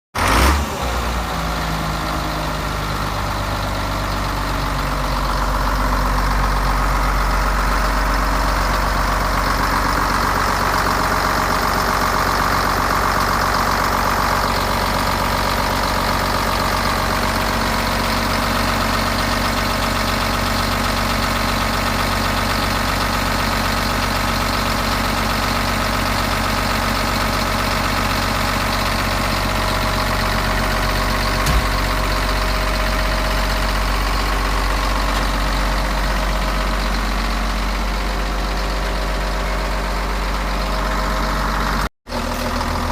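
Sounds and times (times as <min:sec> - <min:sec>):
diesel engine idling: 0:00.2 - 0:42.9.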